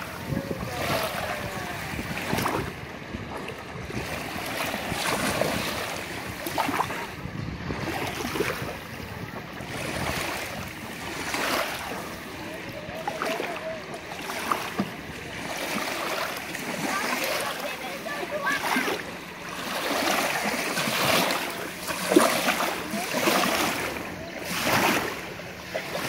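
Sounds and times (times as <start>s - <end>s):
waves lapping on sandy shore: 0.0s - 26.0s.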